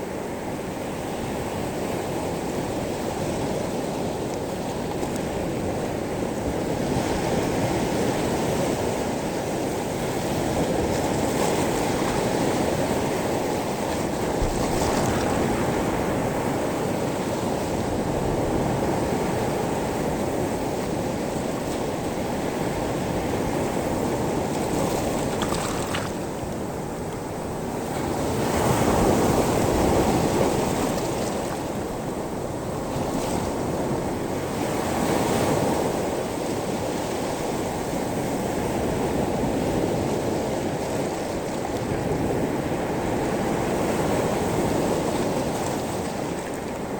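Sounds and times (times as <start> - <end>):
waves washing over pebbles: 2.6 - 17.2, 17.9 - 46.9.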